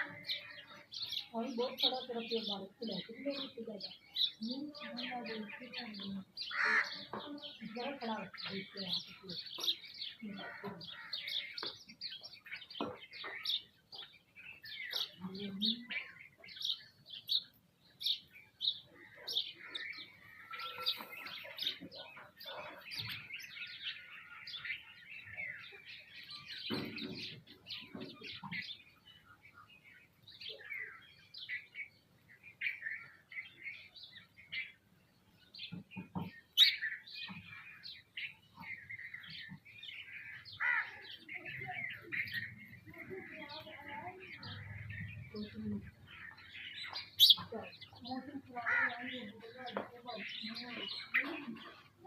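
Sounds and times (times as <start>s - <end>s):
flock of small birds chirping: 0.0s - 52.0s.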